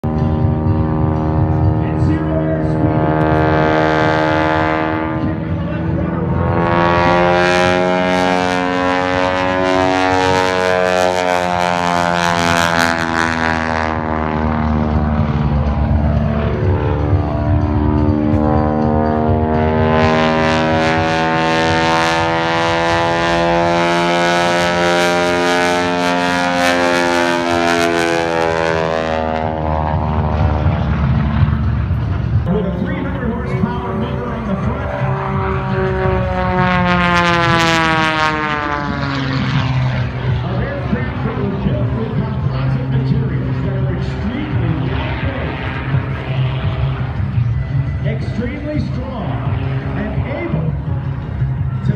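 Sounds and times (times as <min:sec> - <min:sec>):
propeller plane engine drone: 0:00.0 - 0:51.9.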